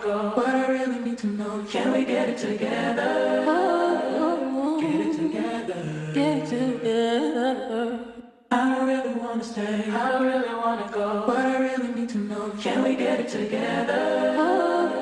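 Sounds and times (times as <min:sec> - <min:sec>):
choir-like singing voices: 0:00.0 - 0:15.0.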